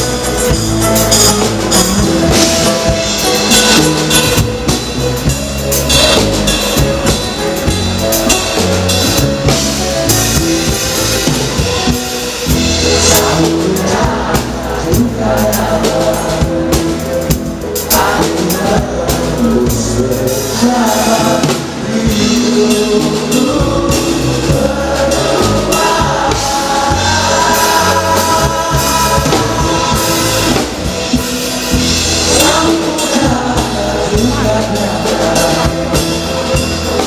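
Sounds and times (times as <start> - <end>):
band playing a song: 0.0 - 37.0
drums: 0.0 - 37.0
person singing: 0.0 - 37.0.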